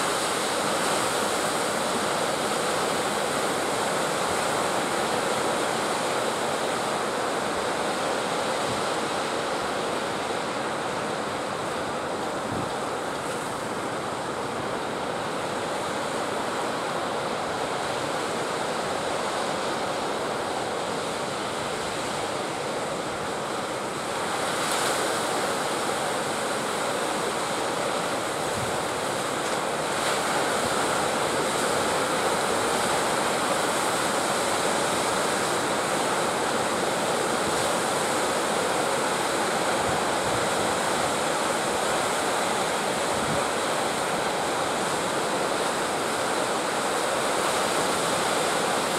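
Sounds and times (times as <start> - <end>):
ocean waves breaking: 0.0 - 48.9.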